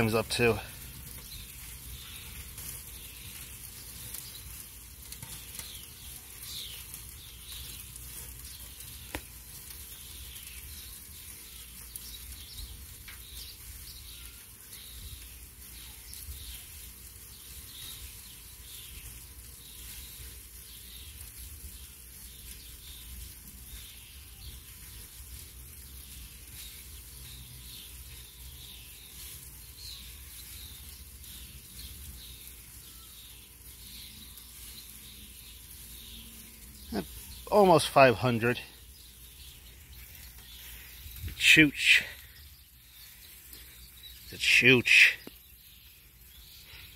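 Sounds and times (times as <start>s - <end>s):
grease crackling on hot coals: 0.0s - 46.9s
meat sizzling on grill: 0.0s - 46.9s.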